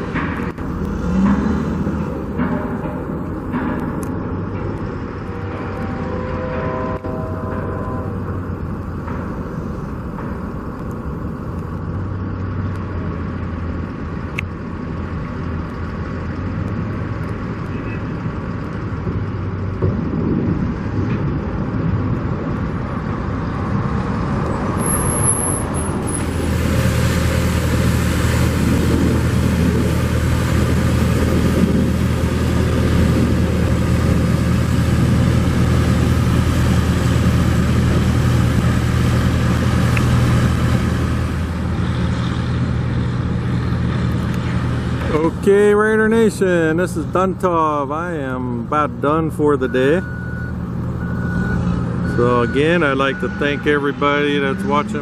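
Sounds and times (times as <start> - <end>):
vehicle road noise: 0.0 - 55.0.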